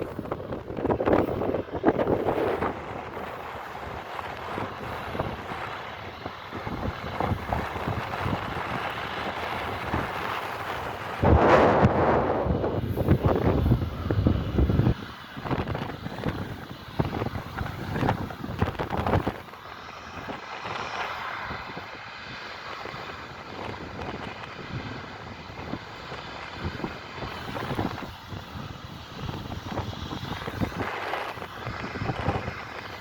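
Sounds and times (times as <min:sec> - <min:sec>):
faint engine whine: 0:00.0 - 0:33.0
jet engines rumbling: 0:00.0 - 0:33.0
wind buffeting microphone: 0:00.0 - 0:33.0.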